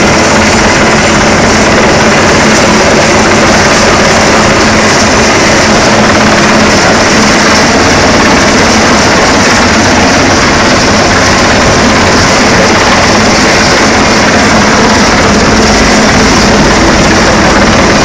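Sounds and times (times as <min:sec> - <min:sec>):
helicopter rotor and turbine: 0:00.0 - 0:18.0.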